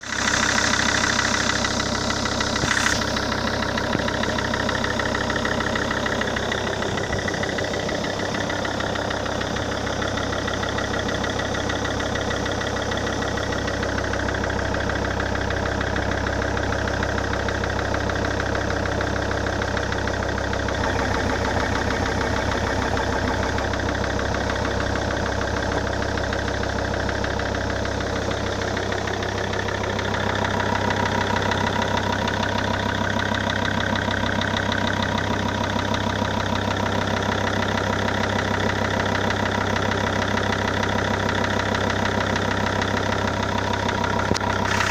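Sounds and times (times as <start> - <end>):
engine idling with rhythmic knock: 0.0 - 44.9.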